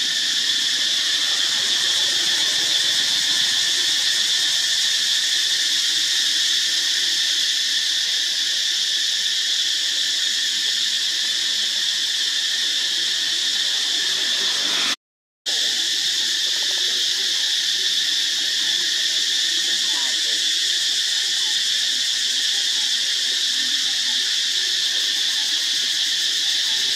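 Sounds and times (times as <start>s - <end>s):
forest insects droning: 0.0s - 26.9s.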